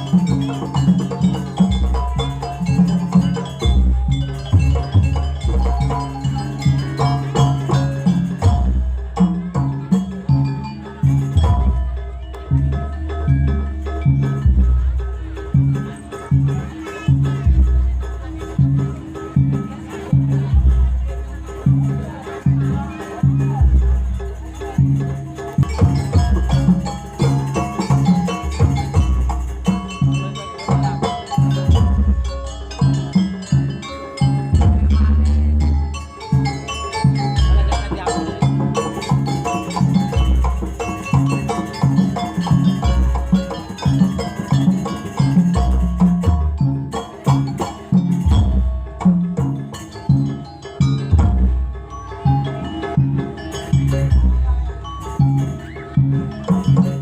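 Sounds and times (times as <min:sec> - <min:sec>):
drums beating driving rhythm: 0:00.0 - 0:57.0
mallet percussion playing: 0:00.0 - 0:57.0
ringing gong and metallophone notes: 0:00.0 - 0:57.0.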